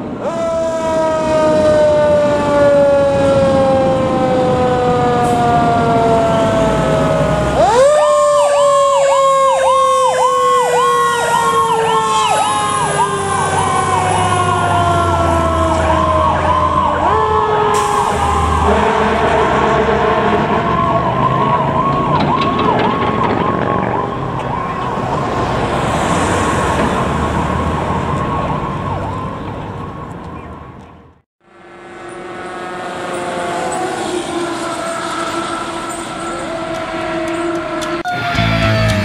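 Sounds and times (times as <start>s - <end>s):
fast siren yelp: 0.1s - 25.3s, 26.9s - 30.8s, 32.2s - 39.0s
electronic siren wailing: 0.1s - 25.4s, 31.4s - 39.0s.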